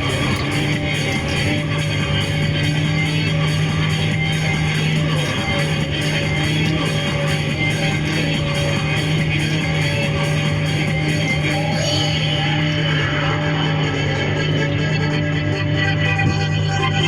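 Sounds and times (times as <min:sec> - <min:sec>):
rock background music: 0:00.0 - 0:17.0
steady low drone: 0:00.0 - 0:17.0.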